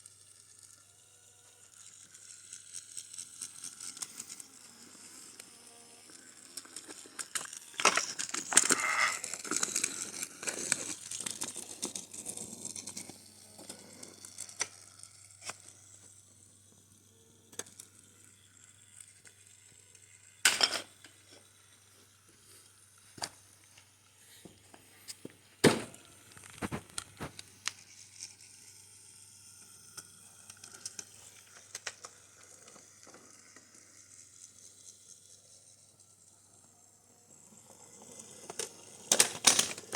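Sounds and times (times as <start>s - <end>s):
wooden toy track rustling and clicking: 0.0s - 39.9s.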